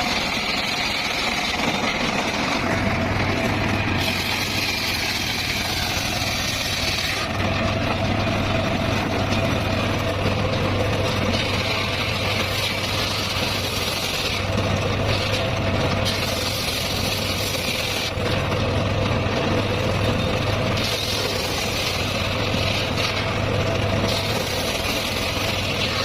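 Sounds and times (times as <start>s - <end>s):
circular saw cutting wood: 0.0s - 26.0s.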